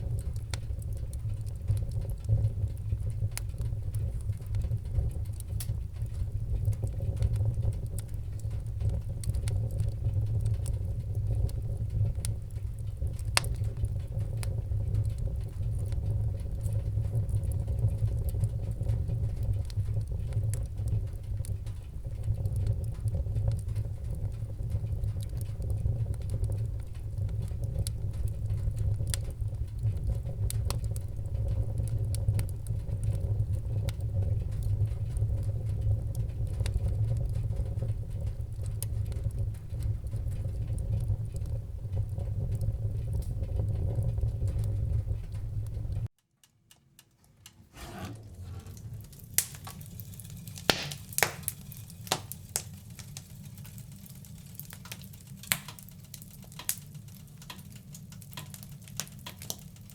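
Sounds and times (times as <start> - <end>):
low rumble of flames: 0.0 - 46.1, 46.7 - 59.9
wood fire crackling and popping: 0.0 - 59.9.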